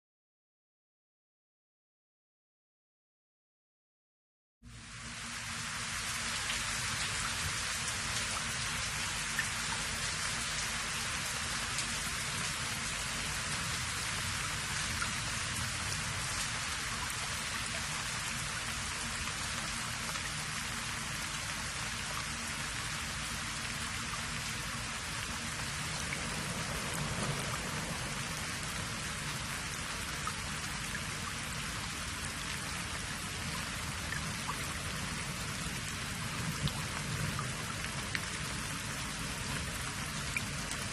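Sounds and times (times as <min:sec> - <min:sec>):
rain-like hiss: 0:04.6 - 0:40.9.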